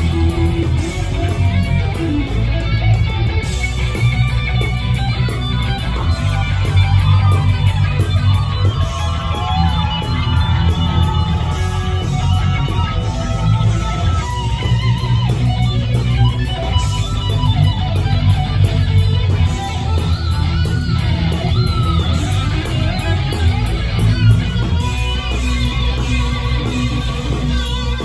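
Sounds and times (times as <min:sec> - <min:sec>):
electric guitar bending notes: 0:00.0 - 0:28.0
heavy metal band playing: 0:00.0 - 0:28.0.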